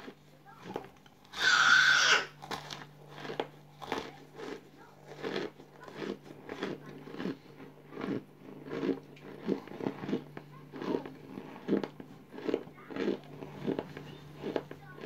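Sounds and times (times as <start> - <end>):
mouth chewing crunchy food: 0.0 - 15.0.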